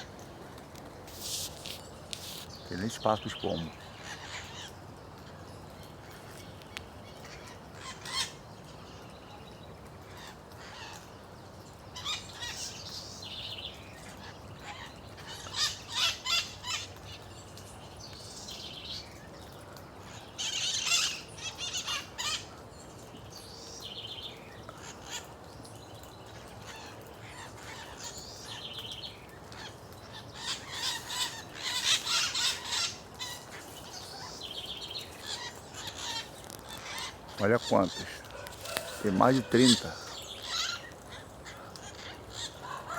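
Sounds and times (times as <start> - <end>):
flock of birds chattering: 0.0 - 42.9.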